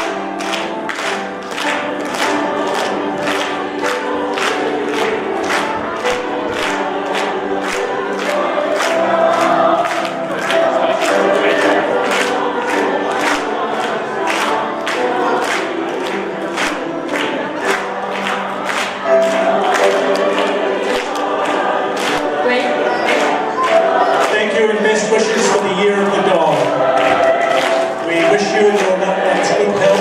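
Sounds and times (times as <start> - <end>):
group of voices singing: 0.0 - 30.0.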